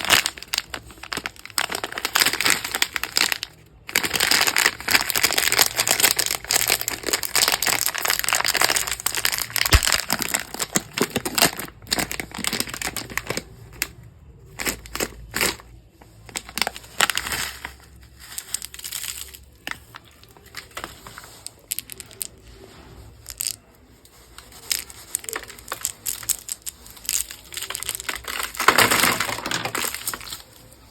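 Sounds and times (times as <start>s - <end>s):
packaging crinkling: 0.0s - 22.6s, 23.2s - 30.9s.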